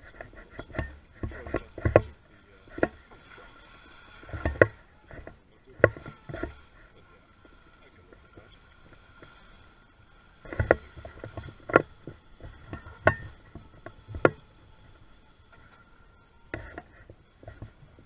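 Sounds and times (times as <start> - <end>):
high whine of boat motor: 0.0 - 18.0.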